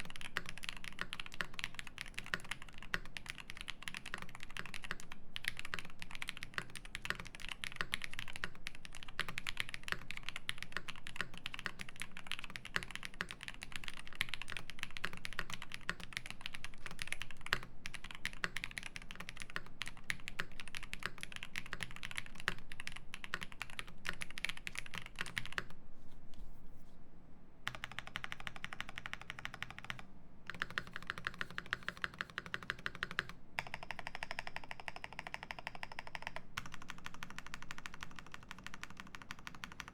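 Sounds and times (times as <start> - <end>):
mechanical keyboard typing: 0.0 - 25.7, 27.7 - 39.9.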